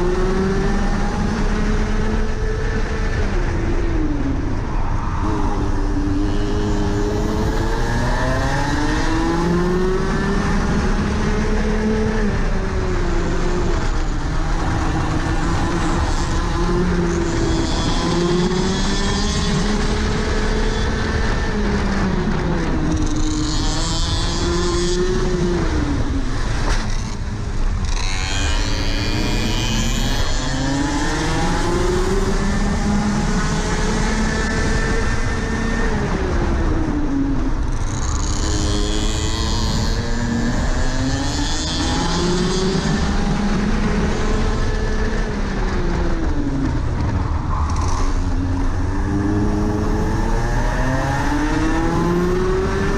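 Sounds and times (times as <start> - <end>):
kart engine revving: 0.0 - 4.6, 5.4 - 52.9.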